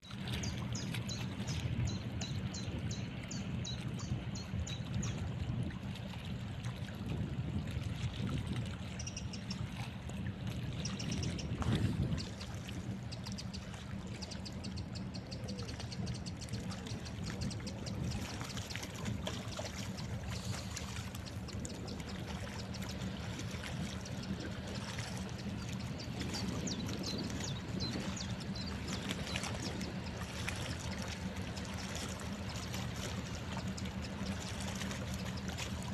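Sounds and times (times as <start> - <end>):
low engine drone: 0.0 - 35.9
water splashing and sloshing: 0.0 - 35.9.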